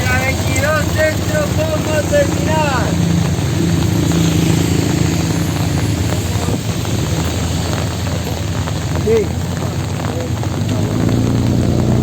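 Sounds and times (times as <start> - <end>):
rain hiss: 0.0 - 12.0
road noise: 0.0 - 12.0
vehicle engine humming: 0.0 - 12.0.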